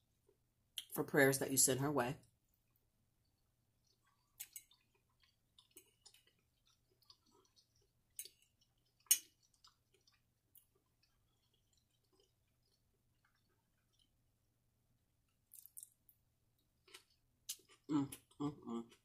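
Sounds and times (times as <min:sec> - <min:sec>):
chewing and mouth sounds: 0:02.5 - 0:14.3, 0:15.3 - 0:19.0.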